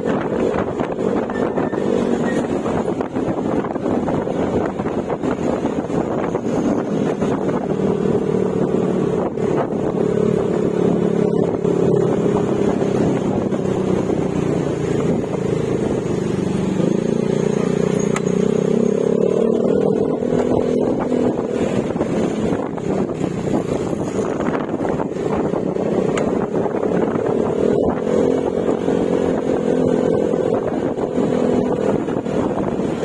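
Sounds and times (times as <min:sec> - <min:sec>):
scooter engine cruising: 0:00.0 - 0:33.0.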